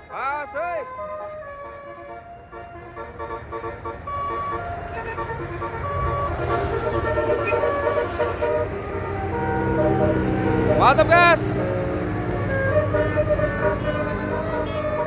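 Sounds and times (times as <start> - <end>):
musical bus horn melody: 0.0 - 15.0
bus engine rumbling: 1.0 - 15.0.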